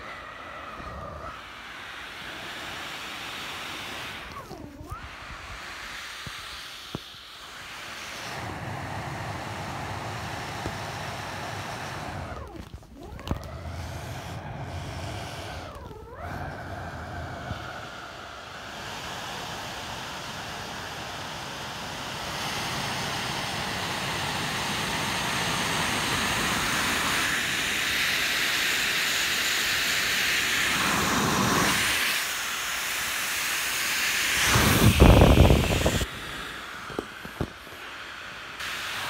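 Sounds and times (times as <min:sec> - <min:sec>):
air hissing from inflatable: 0:00.0 - 0:39.0.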